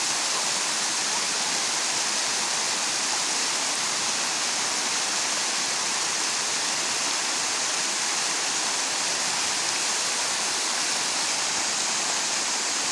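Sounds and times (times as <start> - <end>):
water cascading into pool: 0.0 - 12.9.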